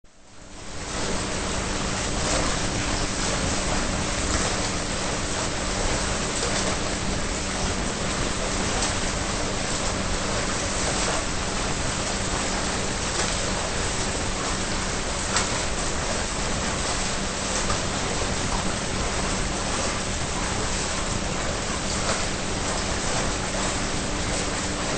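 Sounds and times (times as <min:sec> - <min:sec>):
pool water churning: 0:00.1 - 0:24.9.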